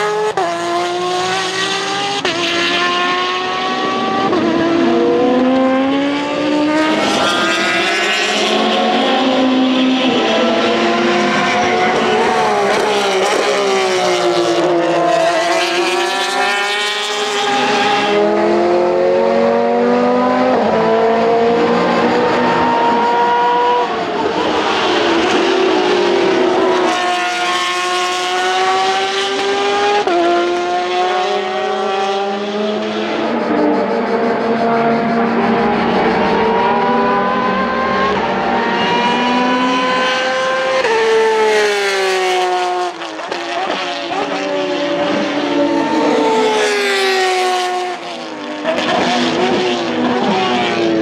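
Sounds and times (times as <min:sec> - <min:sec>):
race car engine at high revs: 0:00.0 - 0:51.0.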